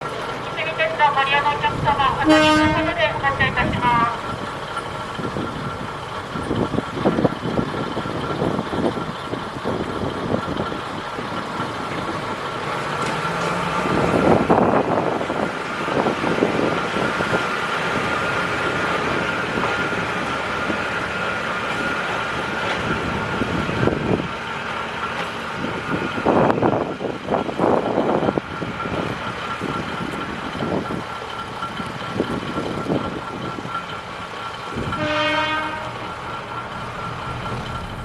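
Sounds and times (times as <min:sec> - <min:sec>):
diesel railcar engine running: 0:00.0 - 0:38.0.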